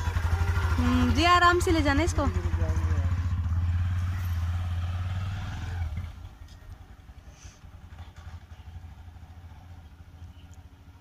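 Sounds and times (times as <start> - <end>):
motorcycle engine pulling away: 0.0 - 11.0.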